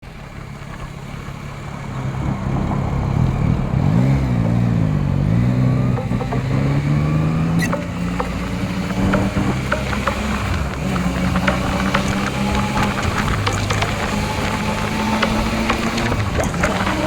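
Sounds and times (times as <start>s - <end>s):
motorcycle engine running: 0.3s - 17.0s
motorcycle engine revving: 1.4s - 17.0s.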